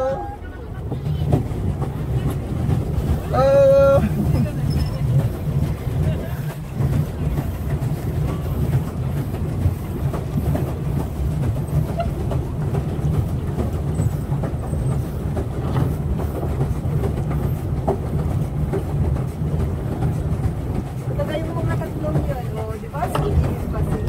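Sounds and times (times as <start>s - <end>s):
pedal boat paddle wheel rumbling: 0.0s - 24.0s.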